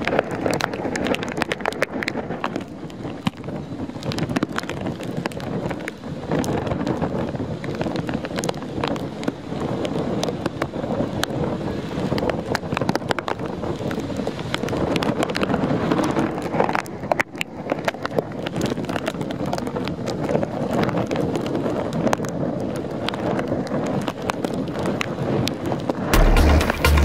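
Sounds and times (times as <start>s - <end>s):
gusty wind on microphone: 0.0s - 26.8s.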